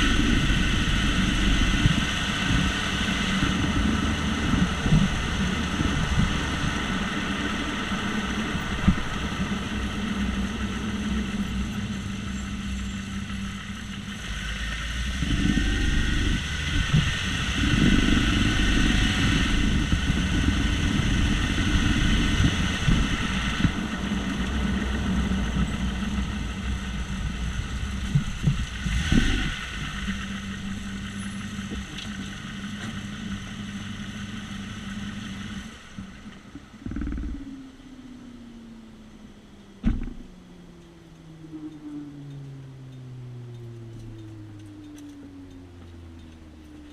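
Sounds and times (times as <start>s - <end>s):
car driving with tyre noise: 0.0s - 46.9s.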